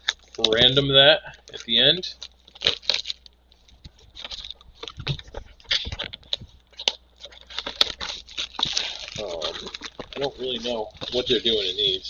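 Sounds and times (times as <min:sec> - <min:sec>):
packaging rustling and crinkling: 0:00.0 - 0:00.8, 0:01.4 - 0:12.0.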